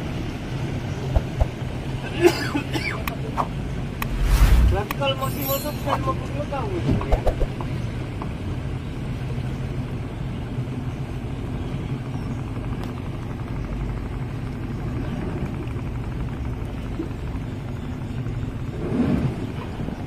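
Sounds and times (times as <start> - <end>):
outboard motors droning: 0.0 - 4.2, 7.5 - 20.0
water and wind noise: 0.0 - 20.0.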